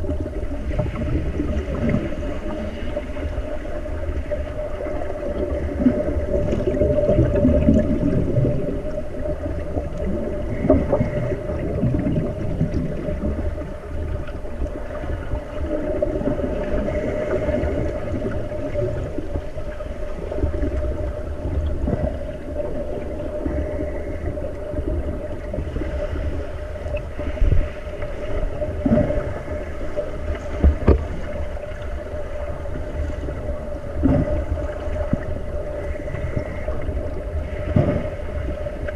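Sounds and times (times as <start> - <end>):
steady hum: 0.0 - 38.9
underwater bubbling and churning: 0.0 - 38.9.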